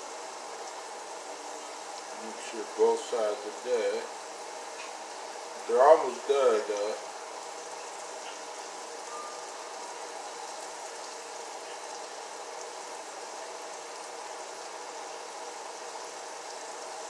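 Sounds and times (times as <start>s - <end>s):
food frying in grease: 0.0s - 17.0s.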